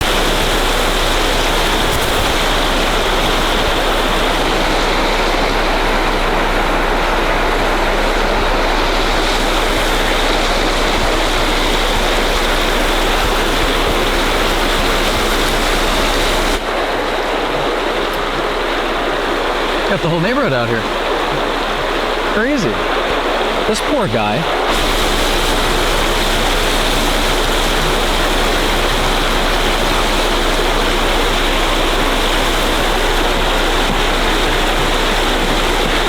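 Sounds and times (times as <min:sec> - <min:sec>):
water gushing loudly: 0:00.0 - 0:36.0.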